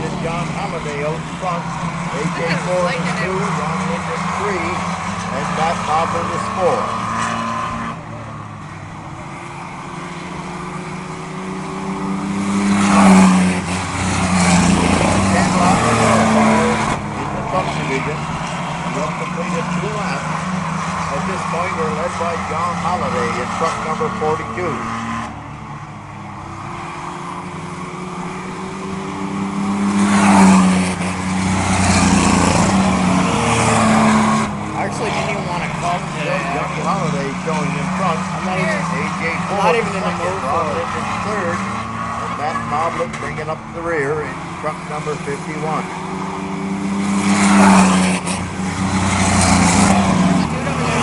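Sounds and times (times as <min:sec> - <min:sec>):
race truck engines passing: 0:00.0 - 0:51.0.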